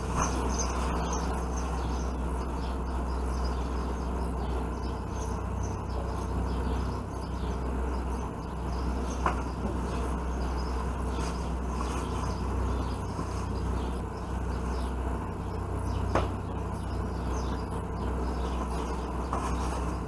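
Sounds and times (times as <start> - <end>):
low buzzing hum: 0.0 - 20.0.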